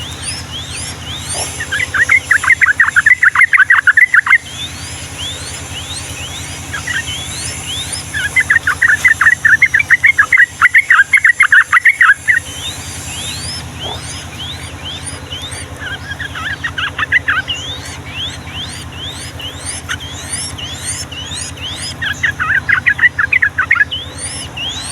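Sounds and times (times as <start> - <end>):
bulbul singing bubbling phrases: 0.0 - 24.9
steady low hum: 0.0 - 24.9
thin rising whistles: 0.0 - 24.9.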